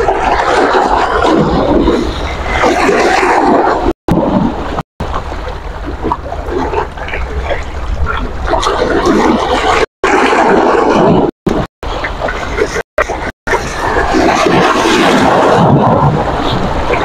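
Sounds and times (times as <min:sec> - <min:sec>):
sea waves lapping and splashing: 0:00.0 - 0:17.0
wind buffeting microphone: 0:00.0 - 0:17.0.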